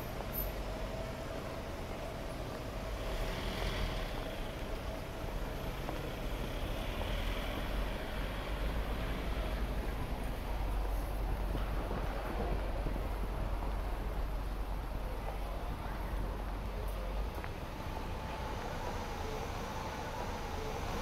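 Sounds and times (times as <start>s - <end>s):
minibus passing close: 0.0s - 21.0s
vehicle engines passing: 0.0s - 21.0s.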